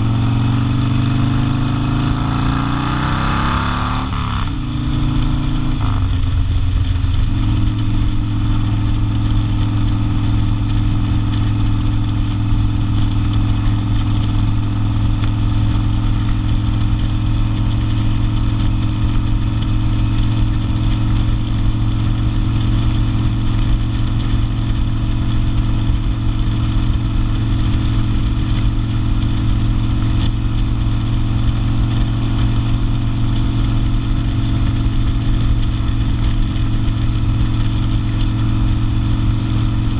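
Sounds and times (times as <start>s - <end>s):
motorcycle engine with open exhaust: 0.0s - 39.9s.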